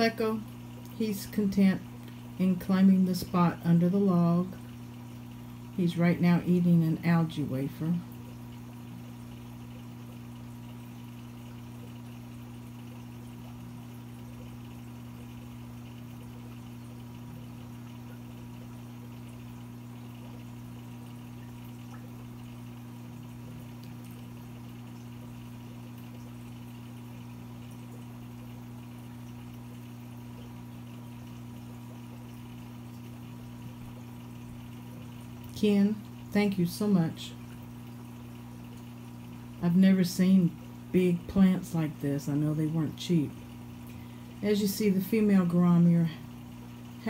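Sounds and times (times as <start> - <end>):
aquarium equipment hum: 0.0 - 47.0
water bubbling and trickling: 0.0 - 47.0.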